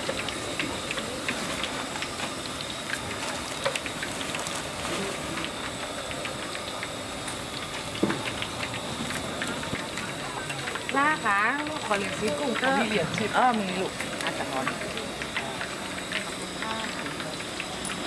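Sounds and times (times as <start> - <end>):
food deep-frying in oil: 0.0 - 18.0.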